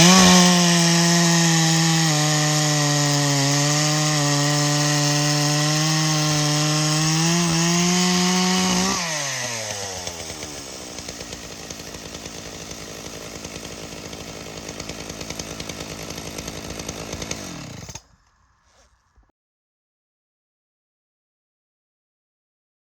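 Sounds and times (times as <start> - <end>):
chainsaw running: 0.0 - 18.9.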